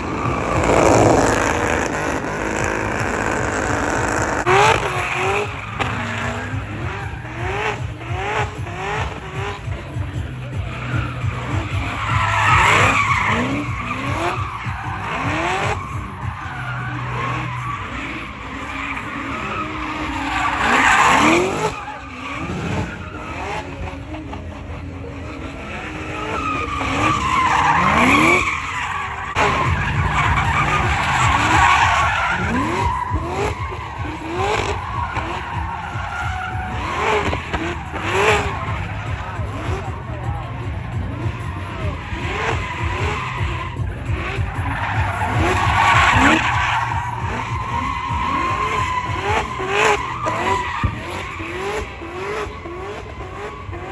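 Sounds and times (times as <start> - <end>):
engines revving hard: 0.0 - 53.9
tyre squeal: 0.0 - 53.9.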